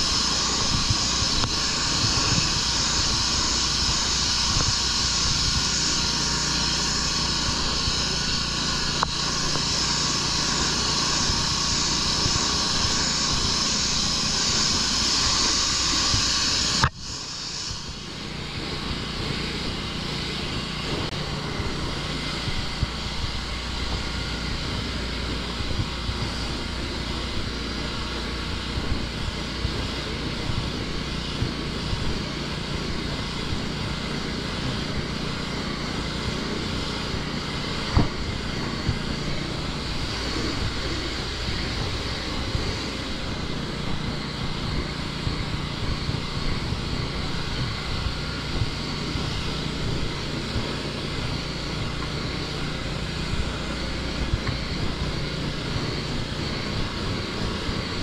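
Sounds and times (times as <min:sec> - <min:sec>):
pressure washer engine drone: 0:00.0 - 0:58.0
water spray hissing: 0:00.0 - 0:58.0.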